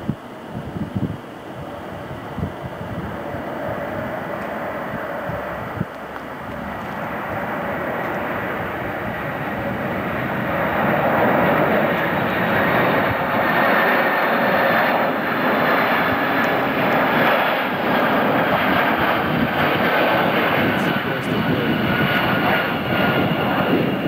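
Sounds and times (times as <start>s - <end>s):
jet engines of passing airliner: 0.0s - 24.0s.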